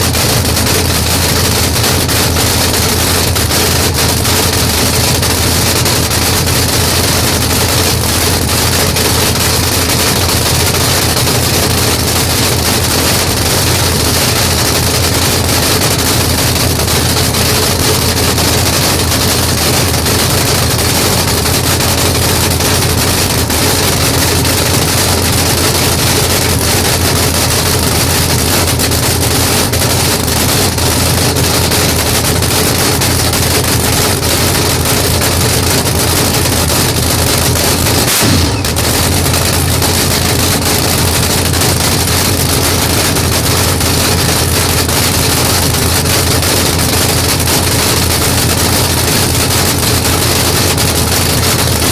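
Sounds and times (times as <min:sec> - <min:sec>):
drag car engine running loud: 0:00.0 - 0:51.9.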